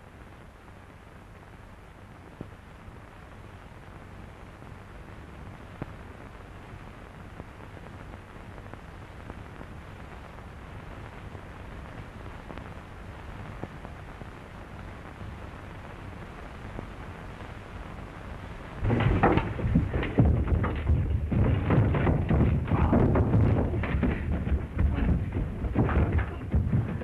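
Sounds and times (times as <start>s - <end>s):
film soundtrack hiss and crackle: 0.0s - 27.0s.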